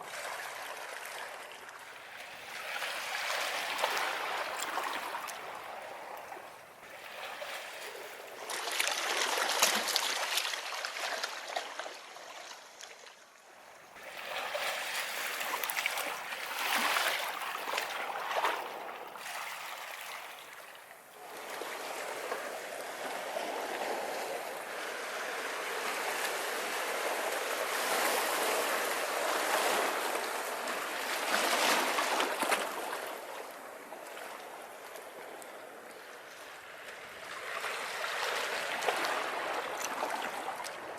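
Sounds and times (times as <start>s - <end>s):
waves breaking on beach: 0.0s - 12.8s, 13.7s - 40.9s.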